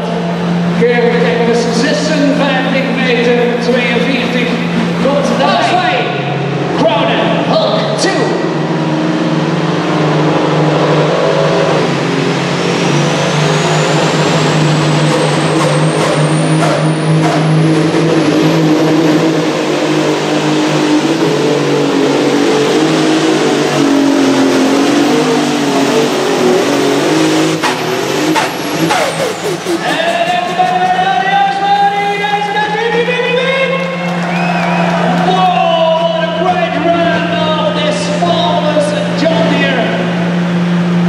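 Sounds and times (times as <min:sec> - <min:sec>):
tractor engine drone with whine: 0:00.0 - 0:41.0.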